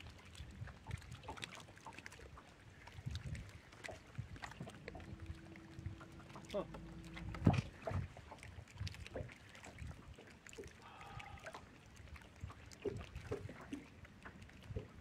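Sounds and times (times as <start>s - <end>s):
waves slapping against boat hull: 0.4s - 10.8s, 11.5s - 15.0s.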